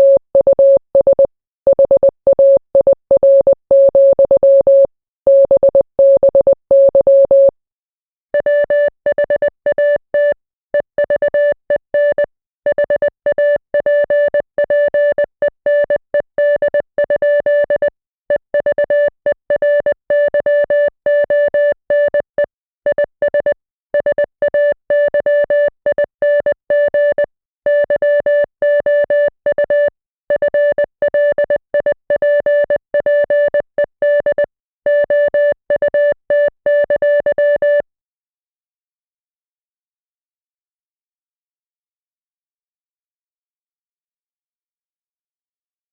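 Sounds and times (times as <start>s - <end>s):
morse code beeps: 0.0s - 7.6s, 8.4s - 37.8s.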